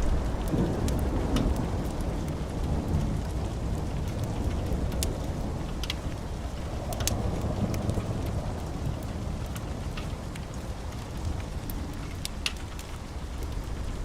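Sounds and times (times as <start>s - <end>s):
fireplace fire crackling: 0.0s - 14.0s
rolling rumble of thunder: 0.0s - 14.0s
steady rain: 0.0s - 14.0s.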